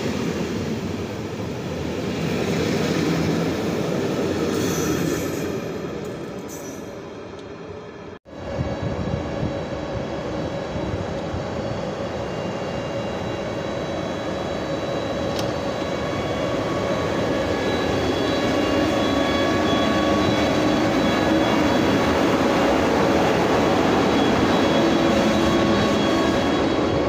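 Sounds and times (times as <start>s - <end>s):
electric locomotive whine: 0.0s - 27.0s.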